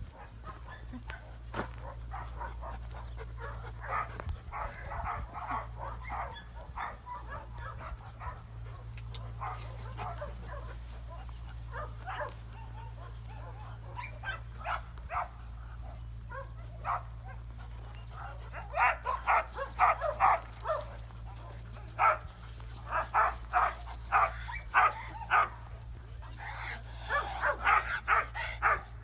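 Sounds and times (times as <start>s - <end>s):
steady low rumble: 0.0s - 29.0s
dog barking: 0.1s - 29.0s.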